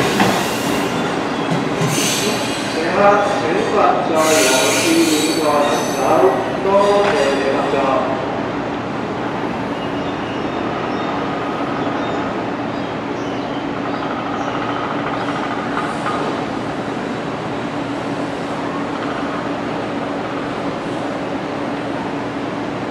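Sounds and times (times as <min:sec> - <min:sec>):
train coaches rumbling over tracks: 0:00.0 - 0:22.9.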